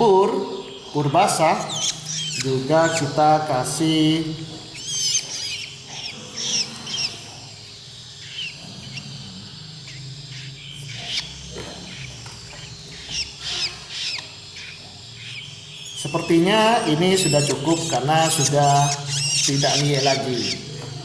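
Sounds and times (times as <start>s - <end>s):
nestlings squeaky begging calls: 0.0s - 21.0s.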